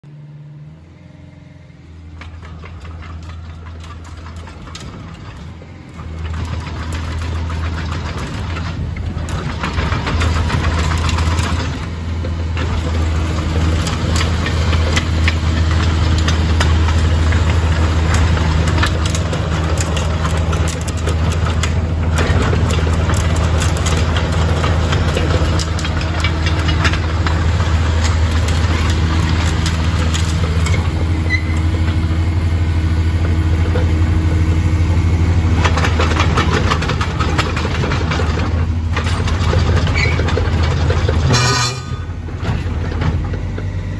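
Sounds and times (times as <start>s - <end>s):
diesel engine clattering: 1.7s - 43.9s.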